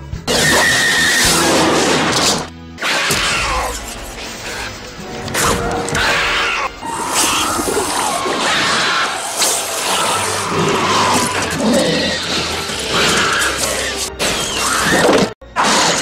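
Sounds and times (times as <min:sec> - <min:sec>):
dramatic film music: 0:00.0 - 0:16.0
monster sound effects: 0:00.3 - 0:16.0.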